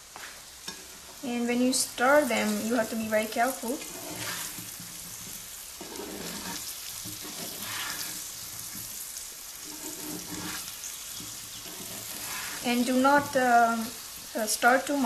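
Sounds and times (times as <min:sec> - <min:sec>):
okra sizzling in oil: 0:00.0 - 0:15.0
spatula stirring in pan: 0:00.6 - 0:15.0.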